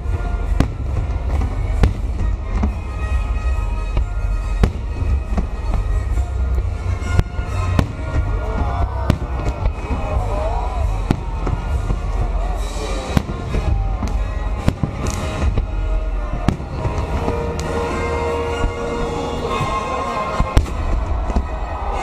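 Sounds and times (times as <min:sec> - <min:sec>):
fireworks bursting bangs: 0:00.0 - 0:22.0.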